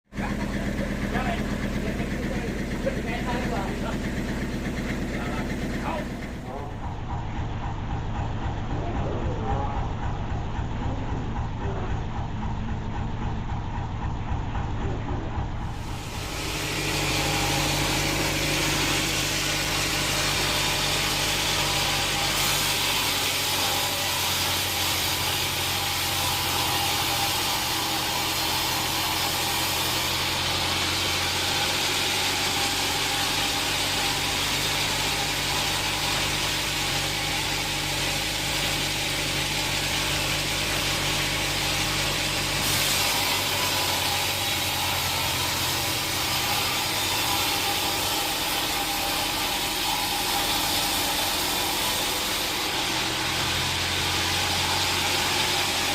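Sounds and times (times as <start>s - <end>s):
sawmill engine hum: 0.0s - 55.9s.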